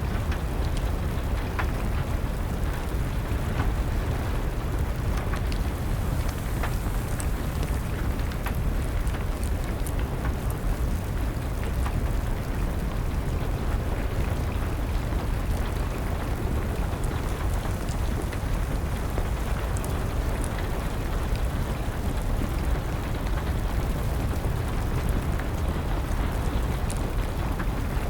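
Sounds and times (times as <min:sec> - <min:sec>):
steady rain: 0:00.0 - 0:28.0
wood fire crackles: 0:00.0 - 0:28.0.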